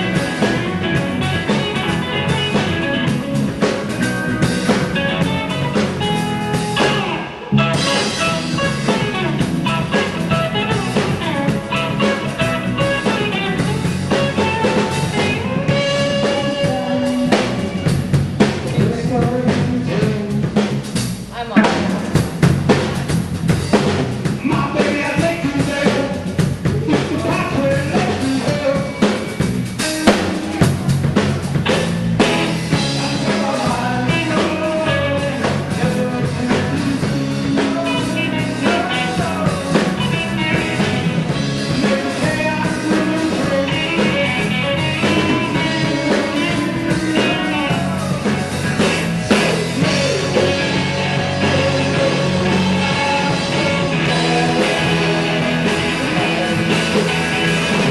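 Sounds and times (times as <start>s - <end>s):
drum kit beat: 0.0s - 57.9s
rock band playing: 0.0s - 57.9s.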